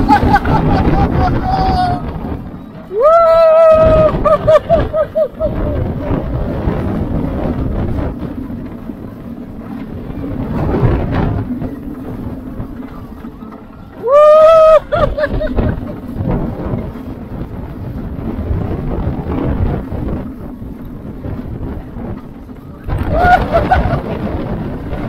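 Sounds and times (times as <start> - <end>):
roller coaster train rumbling: 0.0 - 25.0
wind rushing over microphone: 0.0 - 25.0.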